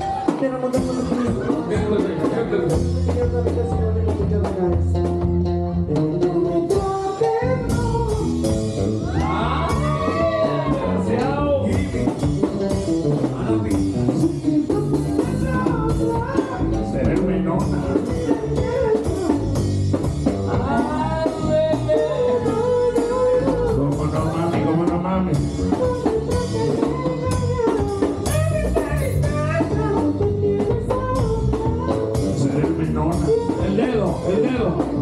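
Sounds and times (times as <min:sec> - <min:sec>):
drums: 0:00.0 - 0:35.0
person singing: 0:00.0 - 0:35.0.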